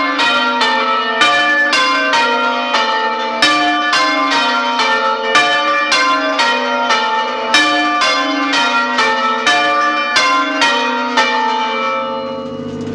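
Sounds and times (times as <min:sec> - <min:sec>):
church bells ringing: 0:00.0 - 0:12.9.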